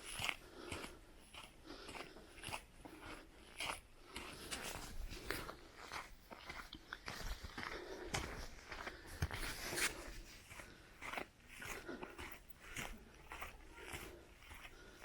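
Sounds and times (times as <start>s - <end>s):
footsteps crunching on path: 0.0s - 15.0s.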